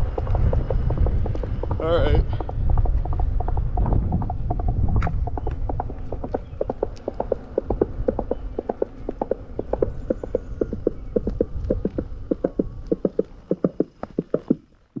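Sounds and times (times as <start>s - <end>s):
horse hoof clip-clop effect: 0.0s - 15.0s
low rumble: 0.0s - 15.0s.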